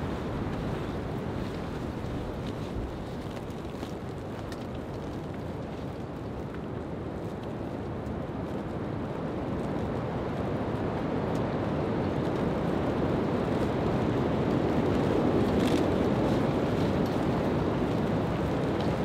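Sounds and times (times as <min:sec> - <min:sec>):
wind buffeting tent fabric: 0:00.0 - 0:19.0.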